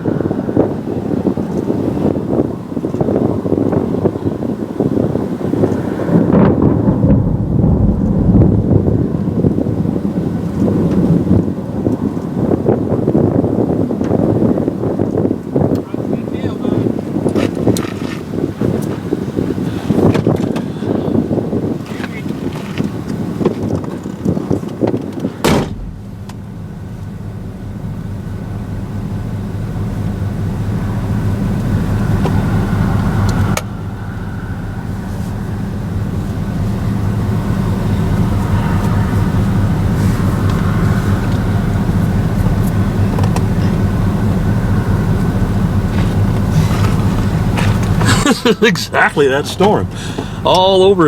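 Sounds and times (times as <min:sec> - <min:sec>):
vehicle engine and road noise: 0:00.0 - 0:51.0.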